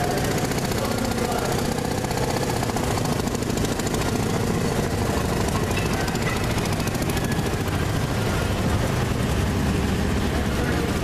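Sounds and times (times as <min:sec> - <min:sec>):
small gasoline engine running: 0:00.0 - 0:11.0.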